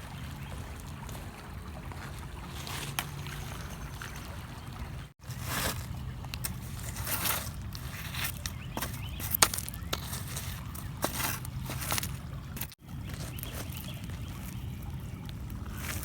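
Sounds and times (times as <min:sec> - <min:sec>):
water sloshing and lapping: 0:00.0 - 0:16.0.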